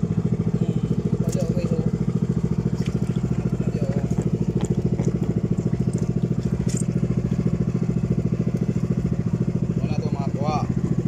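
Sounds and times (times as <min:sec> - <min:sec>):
boat engine throbbing: 0:00.0 - 0:11.0.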